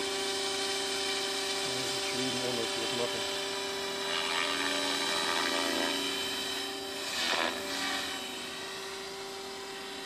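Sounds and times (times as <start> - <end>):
rc helicopter motor whine: 0.0 - 10.0
rotor blade noise: 0.0 - 10.0.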